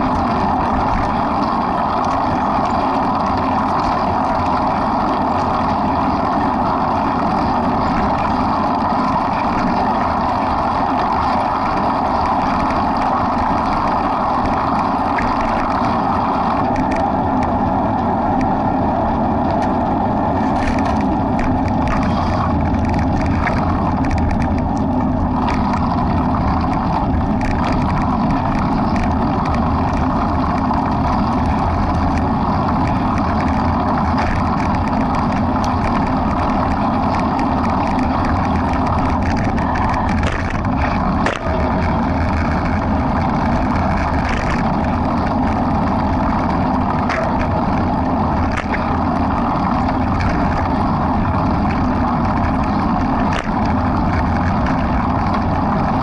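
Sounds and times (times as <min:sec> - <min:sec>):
faint crackles: 0:00.0 - 0:56.0
wind noise on microphone: 0:00.0 - 0:56.0.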